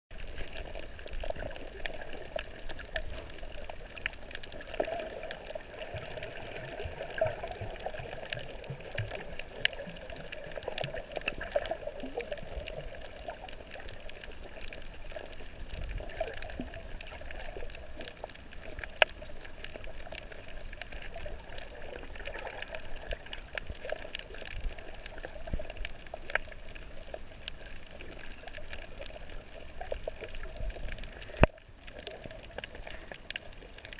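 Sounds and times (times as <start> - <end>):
muffled underwater rush: 0.1 - 33.9
underwater clicks and crackles: 0.1 - 33.9.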